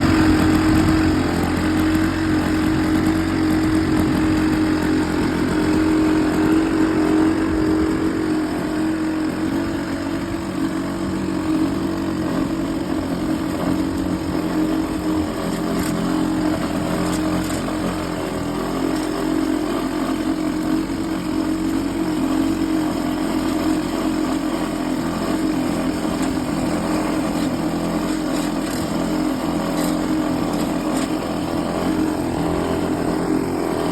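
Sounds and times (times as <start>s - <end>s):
lawn mower engine running: 0.0s - 33.9s.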